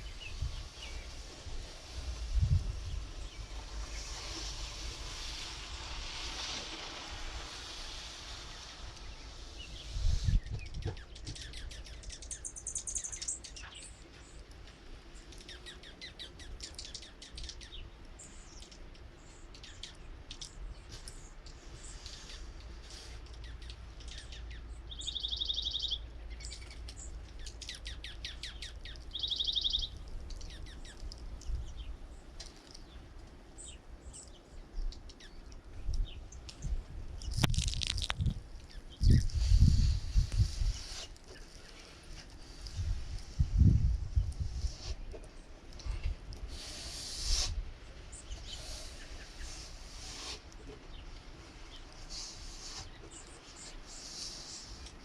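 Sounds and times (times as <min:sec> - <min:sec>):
small birds chirping: 0:00.0 - 0:06.6, 0:07.5 - 0:55.0.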